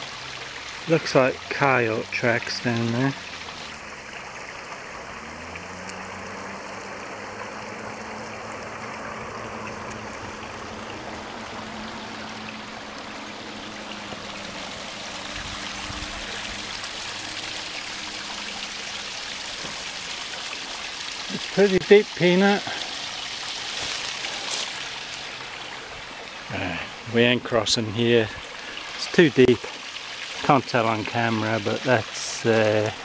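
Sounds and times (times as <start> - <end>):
creek trickling over rocks: 0.0 - 33.0.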